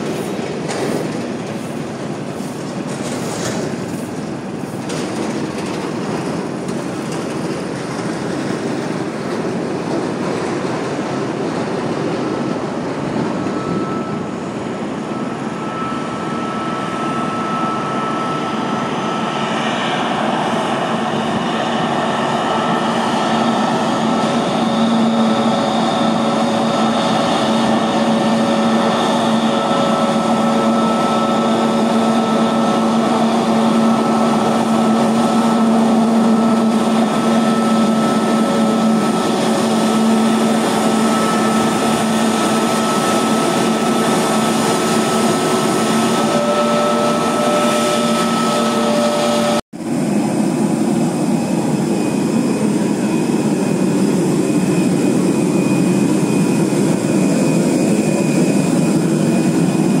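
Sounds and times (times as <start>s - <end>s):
jet engines idling with whine: 0.0s - 60.0s.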